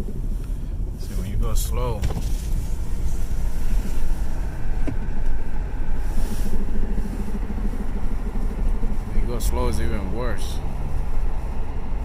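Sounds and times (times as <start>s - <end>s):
low wheel noise of coasting car: 0.0s - 12.0s.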